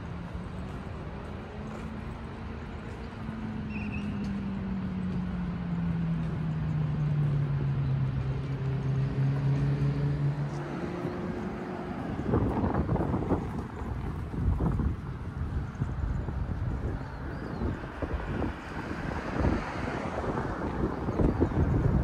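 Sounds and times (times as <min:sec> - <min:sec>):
traffic rumble: 0:00.0 - 0:22.0
vehicle engine hum: 0:00.0 - 0:22.0.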